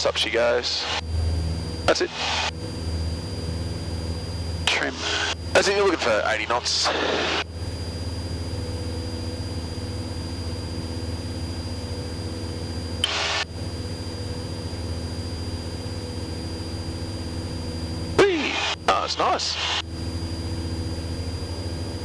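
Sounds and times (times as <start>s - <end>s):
aircraft piston engine drone: 0.0s - 22.0s.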